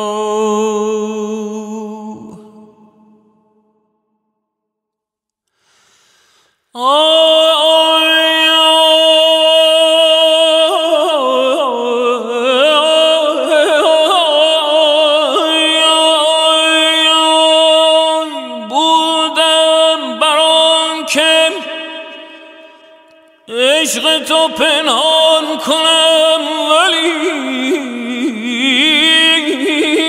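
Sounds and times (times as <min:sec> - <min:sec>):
man singing wordless vocal: 0:00.0 - 0:03.8, 0:06.7 - 0:30.0.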